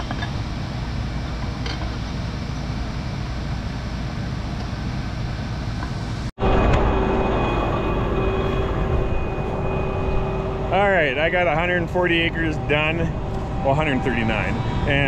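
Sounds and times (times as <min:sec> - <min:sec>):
fan-like hum: 0:00.0 - 0:15.0
running sound with steady whine: 0:00.0 - 0:15.0.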